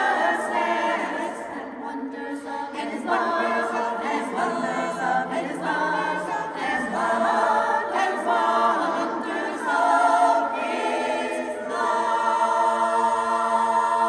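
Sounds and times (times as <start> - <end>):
chorus singing a cappella: 0.0 - 14.0.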